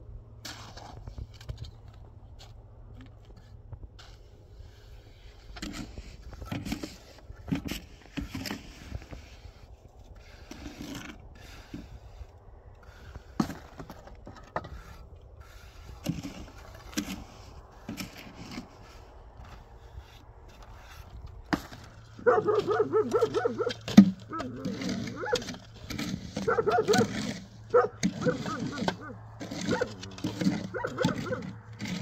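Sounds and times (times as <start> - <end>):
shovel scraping mortar in a tub: 0.4 - 1.8, 2.4 - 32.0.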